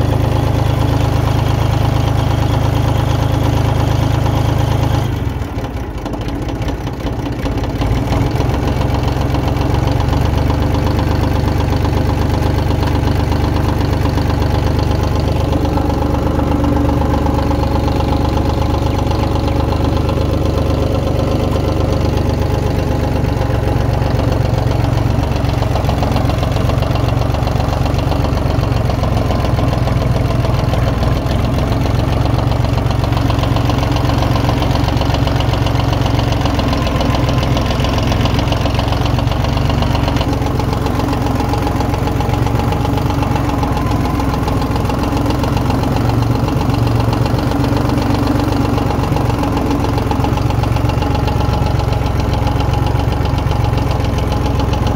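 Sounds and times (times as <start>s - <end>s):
diesel tractor engine running: 0.0s - 54.9s.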